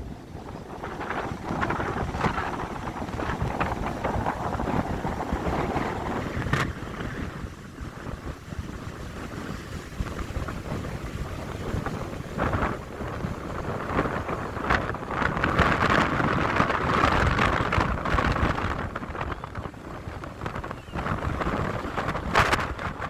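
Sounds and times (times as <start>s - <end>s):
wind gusting on microphone: 0.0s - 23.0s.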